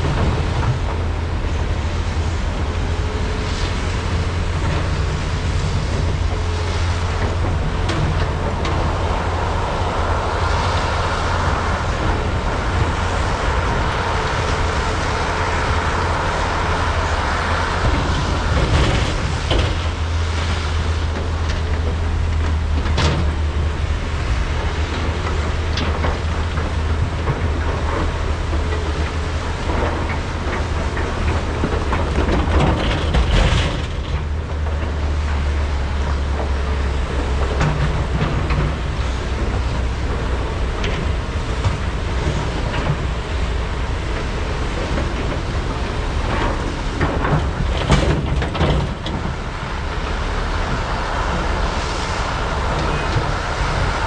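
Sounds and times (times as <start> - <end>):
excavator engine drone: 0.0 - 54.0.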